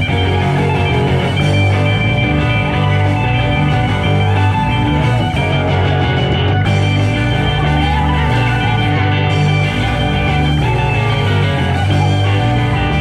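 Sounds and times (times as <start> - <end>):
electric guitar: 0.0 - 13.0
steady bass: 0.0 - 13.0.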